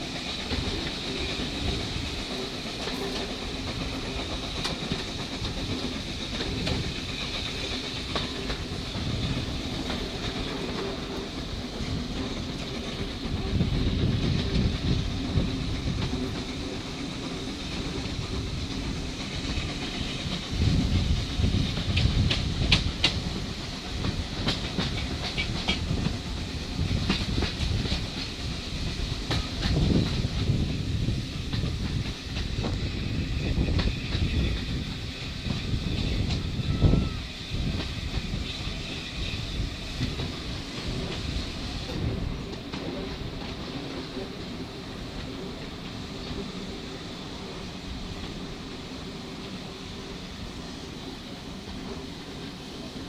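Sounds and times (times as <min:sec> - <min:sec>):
train wheels rumbling on rail: 0:00.0 - 0:53.0
wheels clicking on track: 0:00.0 - 0:53.0.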